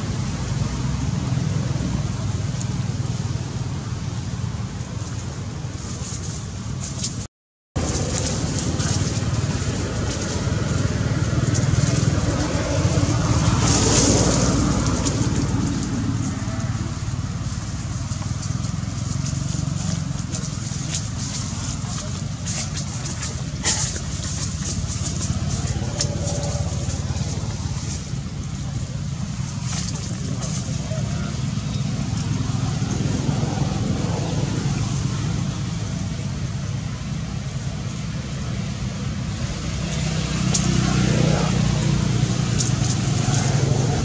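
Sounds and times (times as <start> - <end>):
road traffic rumble: 0.0 - 44.0
vehicle passing: 0.0 - 44.0.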